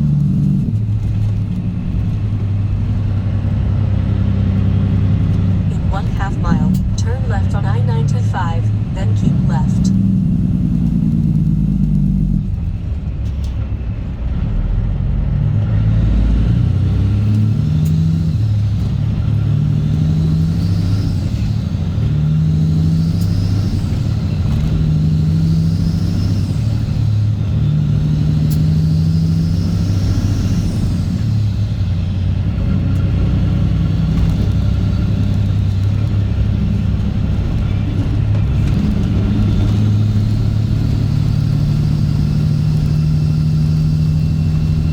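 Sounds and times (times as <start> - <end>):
truck diesel engine pulling hard: 0.0 - 44.9.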